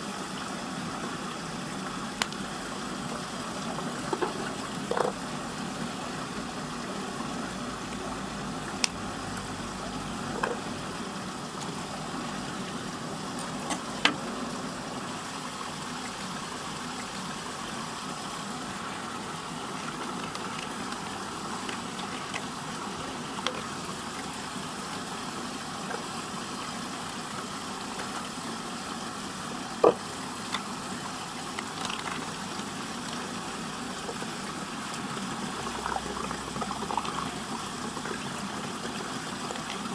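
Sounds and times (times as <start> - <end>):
water rushing in whirlpool: 0.0 - 39.9.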